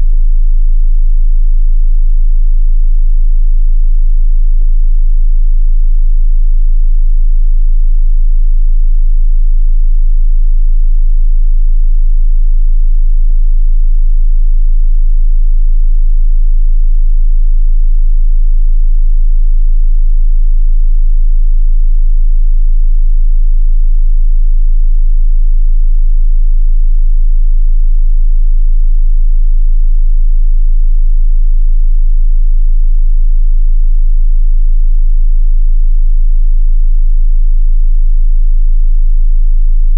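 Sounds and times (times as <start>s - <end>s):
deep bass test tone hum: 0.0s - 39.9s.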